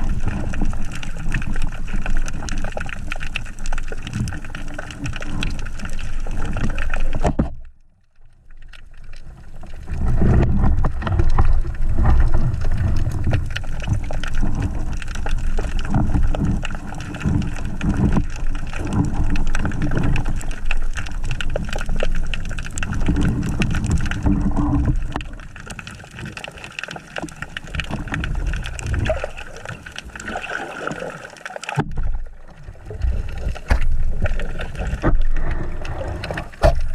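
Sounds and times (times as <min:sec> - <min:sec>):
water churning and gurgling: 0:00.0 - 0:36.9.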